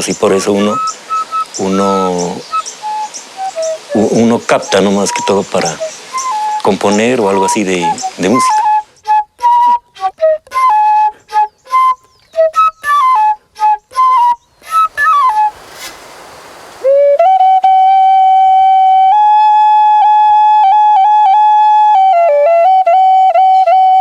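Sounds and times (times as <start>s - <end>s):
solo flute playing: 0.3s - 16.0s, 16.7s - 24.0s.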